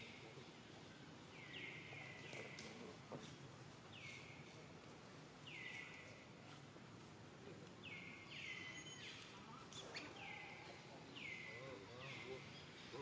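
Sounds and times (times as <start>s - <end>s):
faint outdoor background: 0.0s - 13.0s.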